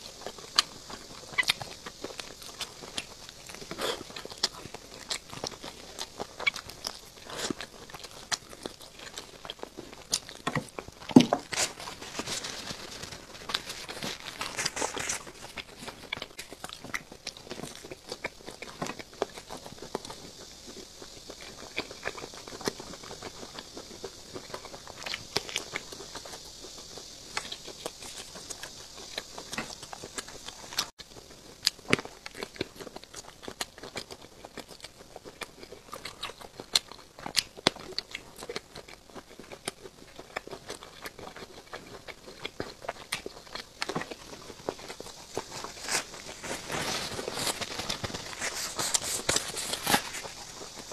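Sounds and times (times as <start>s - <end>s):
biting and chewing food: 0.0s - 50.9s.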